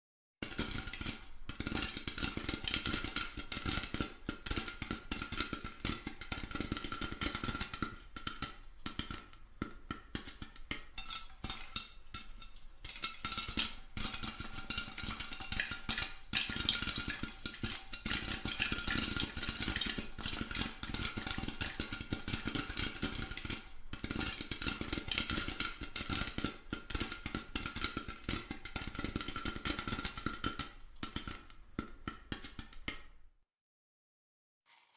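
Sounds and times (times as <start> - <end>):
popcorn popping: 0.4 - 33.4, 34.7 - 34.9.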